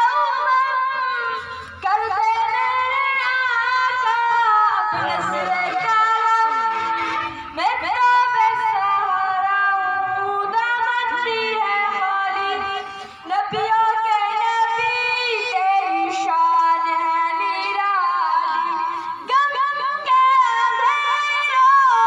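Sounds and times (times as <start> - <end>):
boy chanting through loudspeakers: 0.0 - 22.0.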